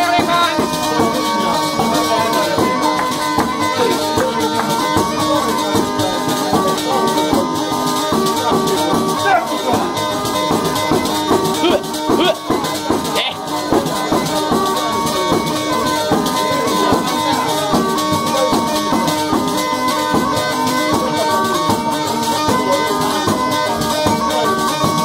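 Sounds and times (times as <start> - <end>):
fast jingling and rattling beat: 0.0 - 25.0
held drone tones: 0.0 - 25.0.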